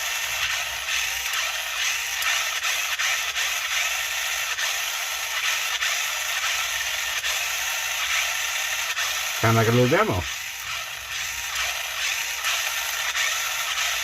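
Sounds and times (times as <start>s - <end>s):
toy car motors whirring: 0.0s - 14.0s.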